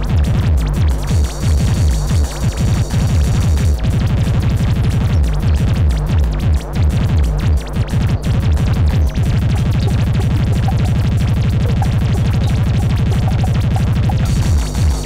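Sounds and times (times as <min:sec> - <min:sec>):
hard electronic techno: 0:00.0 - 0:15.0.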